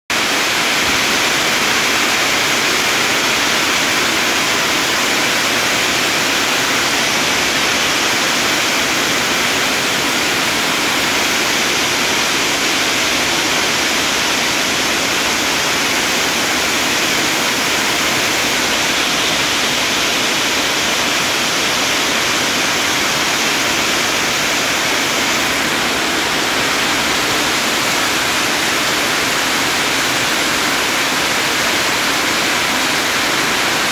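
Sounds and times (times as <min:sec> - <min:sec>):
hail and heavy rain pelting: 0:00.1 - 0:33.9.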